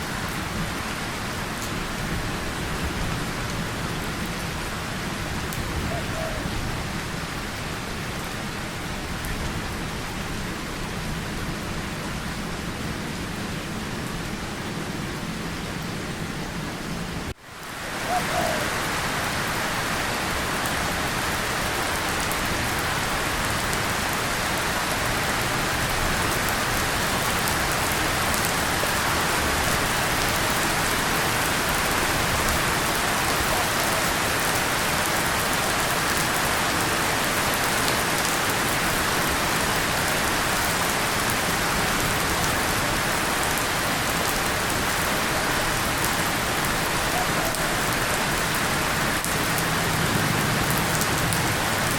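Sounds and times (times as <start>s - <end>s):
rain on a tin surface: 0.0s - 51.9s
rain on leaves: 0.0s - 51.9s.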